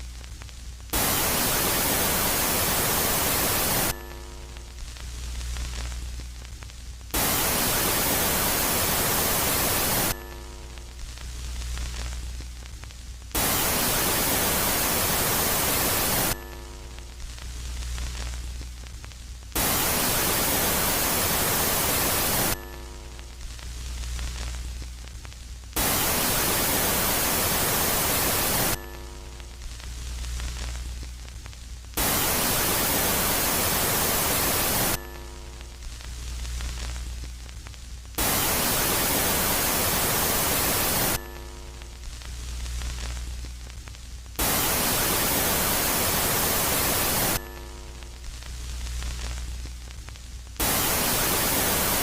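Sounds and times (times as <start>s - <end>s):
static hiss: 0.0s - 52.0s.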